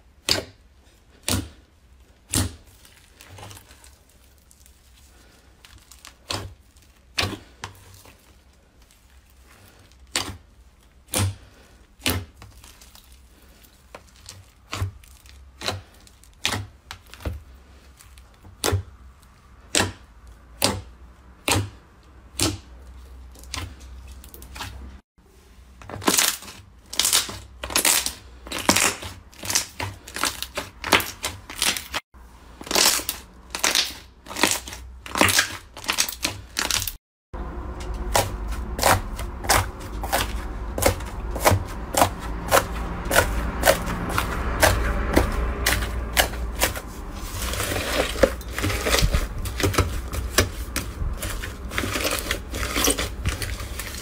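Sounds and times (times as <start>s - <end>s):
slime squishing: 0.0s - 54.0s.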